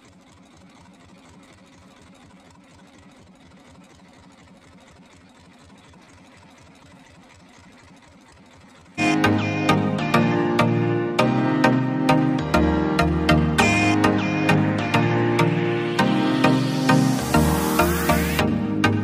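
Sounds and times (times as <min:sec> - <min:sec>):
small boat engine idling: 0:00.0 - 0:19.0.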